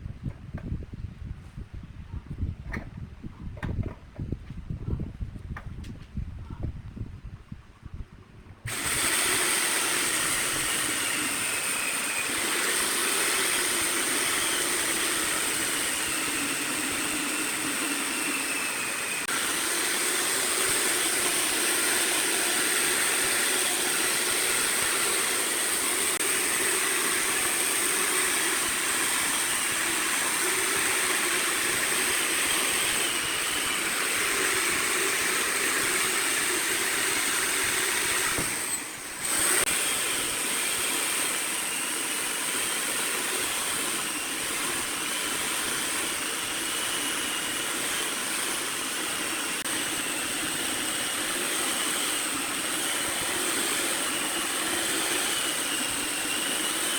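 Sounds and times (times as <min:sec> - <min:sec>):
wood lathe tool scraping: 0:08.7 - 0:56.9.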